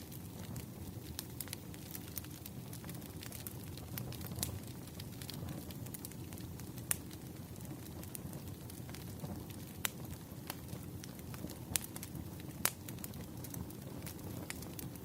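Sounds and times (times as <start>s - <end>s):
burning wood crackling and popping: 0.0s - 15.0s
low rumble of flames: 0.0s - 15.0s.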